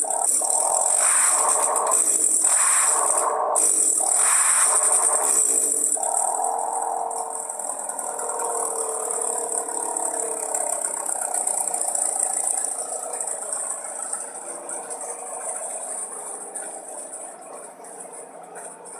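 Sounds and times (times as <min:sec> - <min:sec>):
rattly car engine idling: 0:00.0 - 0:18.9.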